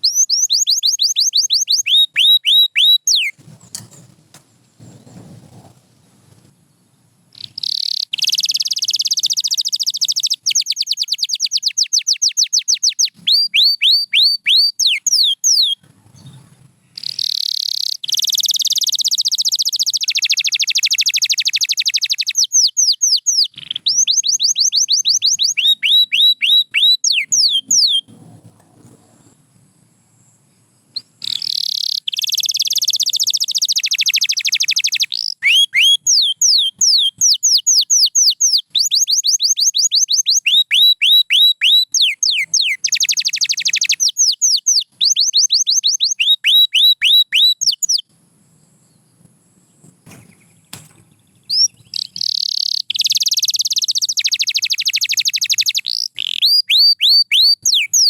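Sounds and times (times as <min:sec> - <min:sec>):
canary singing trills: 0:00.0 - 0:04.1, 0:07.3 - 0:29.4, 0:30.2 - 0:58.0.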